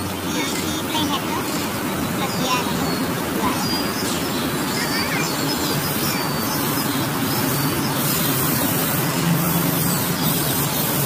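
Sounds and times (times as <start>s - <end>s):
distant traffic rumble: 0.0s - 11.0s
bird chirps: 1.3s - 11.0s.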